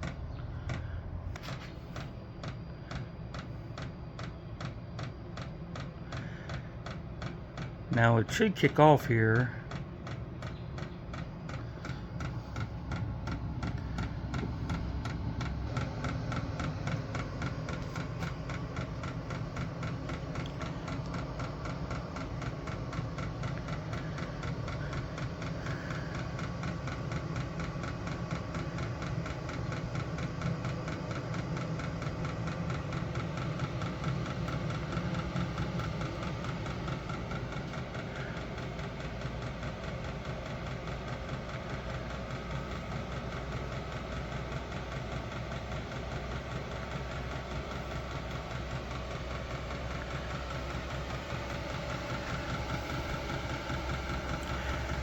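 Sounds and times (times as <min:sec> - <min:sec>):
fuel pump ticking: 0:00.0 - 0:55.0
heater fan and burner rumble: 0:00.0 - 0:55.0.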